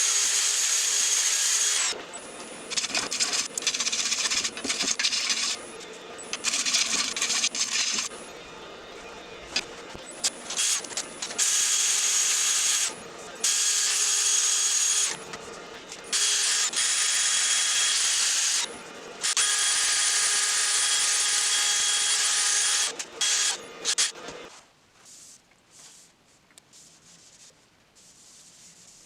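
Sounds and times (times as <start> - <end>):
power drill motor whining: 0.0 - 15.4, 16.0 - 24.3.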